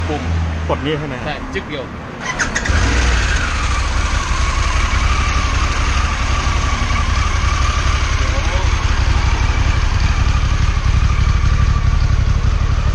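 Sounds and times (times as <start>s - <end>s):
high engine whine: 0.0s - 12.9s
motorcycle engine idling: 2.4s - 12.9s.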